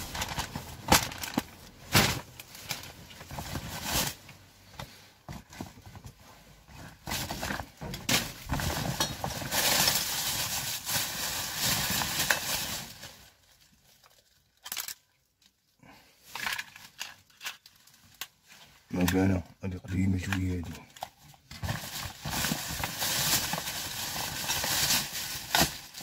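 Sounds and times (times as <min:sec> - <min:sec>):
plastic bags crinkling: 0:00.0 - 0:04.5, 0:06.8 - 0:15.6, 0:16.2 - 0:26.0.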